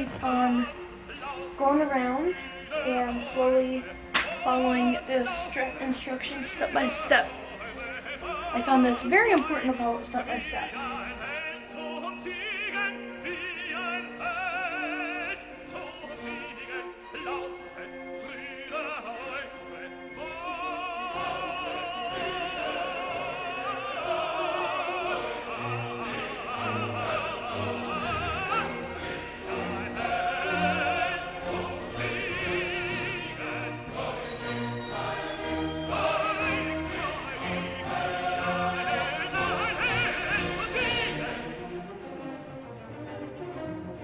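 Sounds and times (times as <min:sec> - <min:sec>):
operatic singer with vibrato: 0:00.0 - 0:42.0
orchestral accompaniment: 0:00.0 - 0:44.0.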